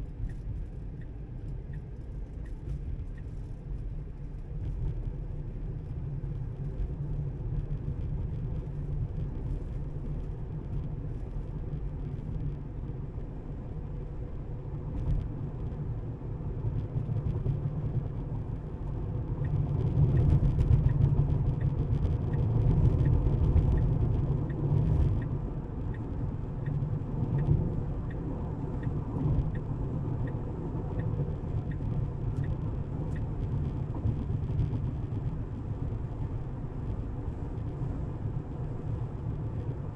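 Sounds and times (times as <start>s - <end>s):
car road and tyre noise: 0.0s - 39.9s.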